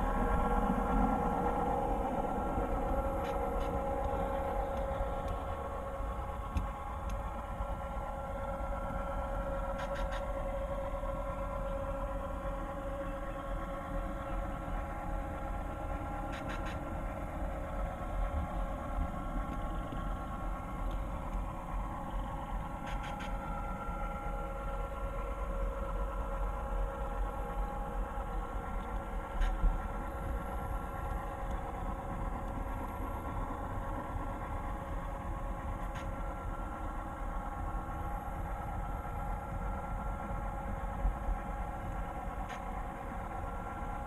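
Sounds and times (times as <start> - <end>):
model locomotive diesel engine rumble: 0.0 - 44.0.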